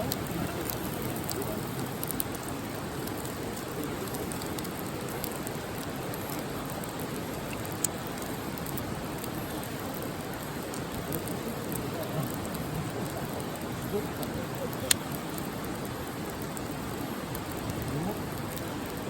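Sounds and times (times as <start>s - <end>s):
campfire hissing: 0.0s - 19.0s
fire crackles and pops: 0.0s - 19.0s.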